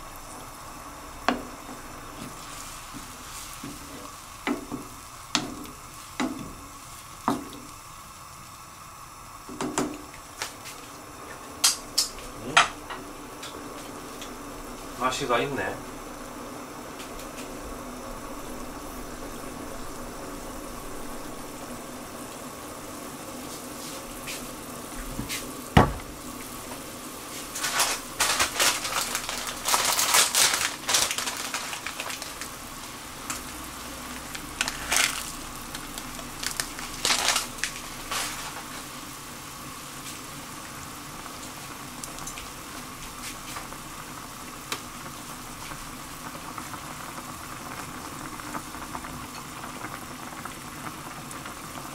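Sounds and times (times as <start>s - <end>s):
pot of broth boiling: 0.0s - 51.9s
crackling rustling noises: 1.5s - 8.4s, 10.1s - 15.9s, 16.8s - 22.5s, 23.2s - 51.9s.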